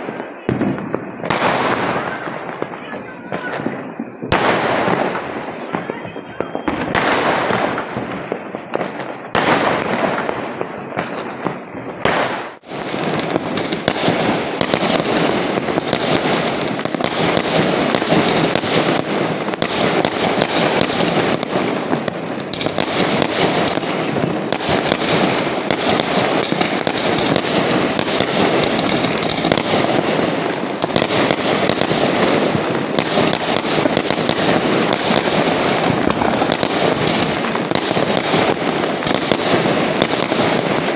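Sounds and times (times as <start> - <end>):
firecrackers crackling and banging: 0.0 - 40.9.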